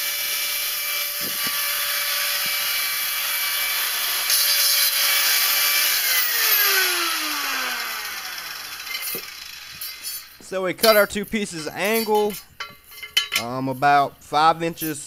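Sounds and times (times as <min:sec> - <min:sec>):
angle grinder cutting steel: 0:00.0 - 0:13.2.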